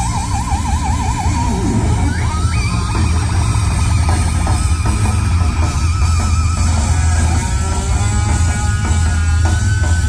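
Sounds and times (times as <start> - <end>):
electric guitar sustained note: 0.0 - 10.0
live rock band playing: 0.0 - 10.0.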